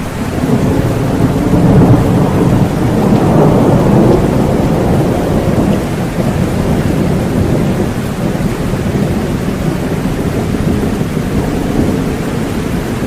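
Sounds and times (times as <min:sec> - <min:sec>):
low rumble of thunder: 0:00.0 - 0:13.0
steady rain: 0:00.0 - 0:13.0.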